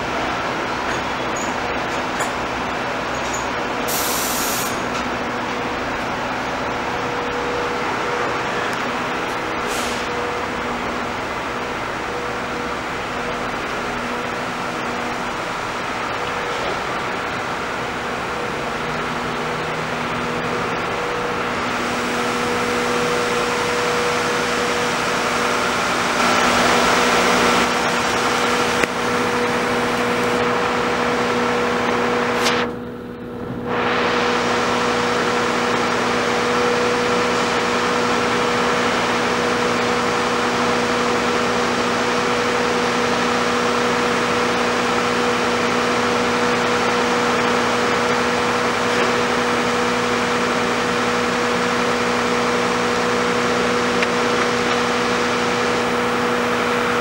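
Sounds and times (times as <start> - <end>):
subway train humming: 0.0 - 57.0.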